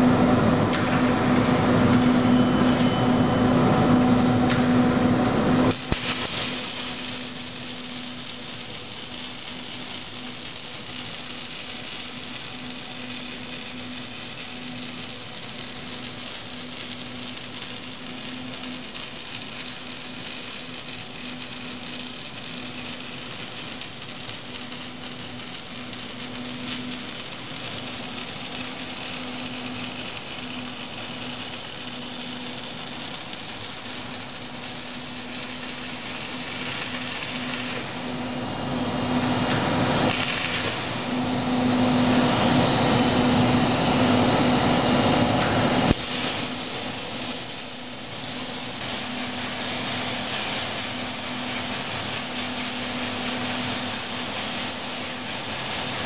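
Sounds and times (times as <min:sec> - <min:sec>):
welding arc sizzling: 0:00.0 - 0:56.0.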